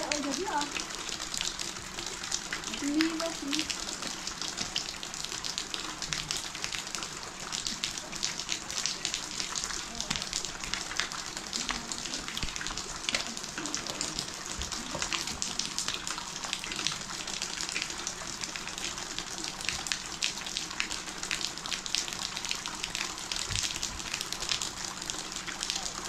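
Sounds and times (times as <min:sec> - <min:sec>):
rain pattering: 0:00.0 - 0:26.0
water splashing onto concrete: 0:00.0 - 0:26.0.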